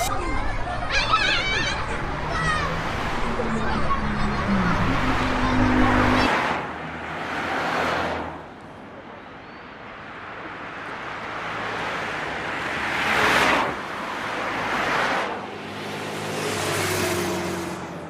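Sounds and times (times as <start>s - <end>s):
vehicle passing by: 0.7s - 8.4s, 10.6s - 18.0s.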